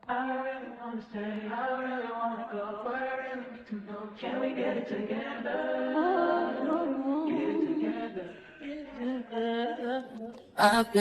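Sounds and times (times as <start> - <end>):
song with sung vocals: 0.0 - 11.0.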